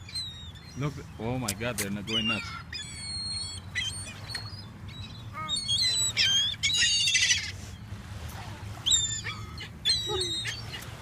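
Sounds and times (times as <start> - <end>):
gulls squawking: 0.0 - 8.0, 8.6 - 11.0.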